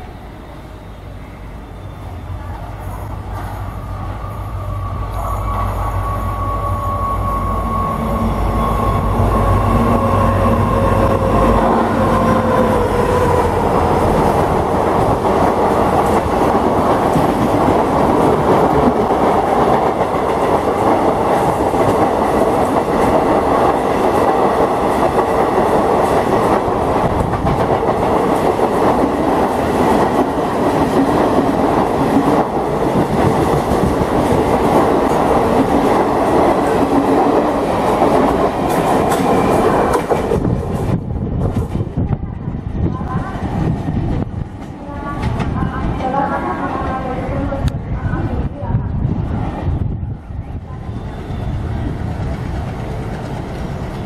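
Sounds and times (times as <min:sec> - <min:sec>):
diesel locomotive engine passing: 0:00.0 - 0:54.0
train wheels rumbling and clacking: 0:02.4 - 0:50.1, 0:51.0 - 0:54.0.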